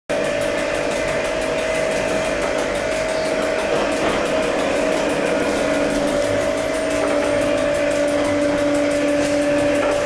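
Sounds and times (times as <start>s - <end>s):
motor and gear whine: 0.1s - 10.0s.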